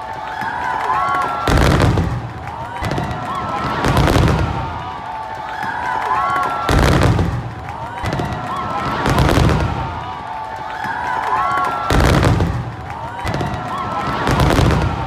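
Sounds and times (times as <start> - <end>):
fireworks crackling: 0.1 - 15.0.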